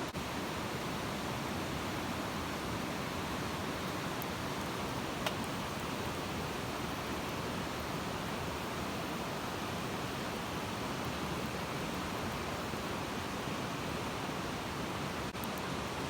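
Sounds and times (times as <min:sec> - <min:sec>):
bonfire burning hiss: 0:00.0 - 0:16.0
fire crackles: 0:00.2 - 0:16.0.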